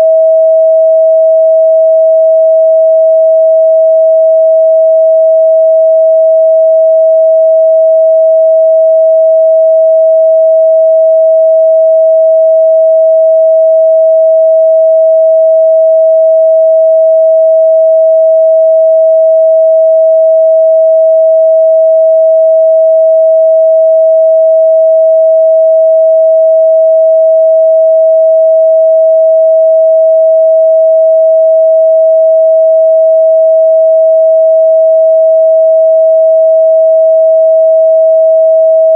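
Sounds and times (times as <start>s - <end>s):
sine wave test tone: 0.0s - 38.9s.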